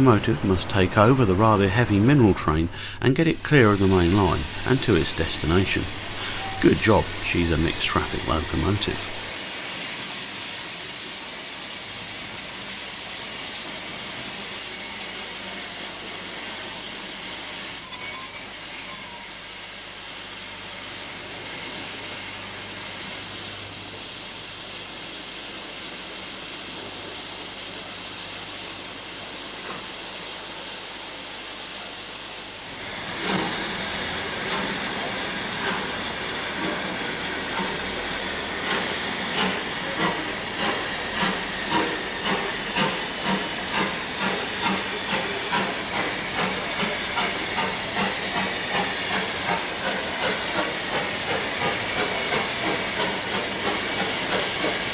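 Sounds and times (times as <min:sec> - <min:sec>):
steam hissing: 0:00.0 - 0:54.9
steam locomotive exhaust beats: 0:00.0 - 0:54.9.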